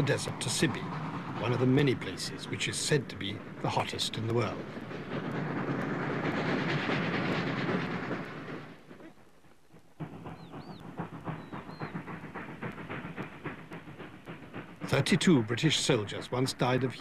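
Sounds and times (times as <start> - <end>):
steam locomotive exhaust beating: 0.0 - 17.0.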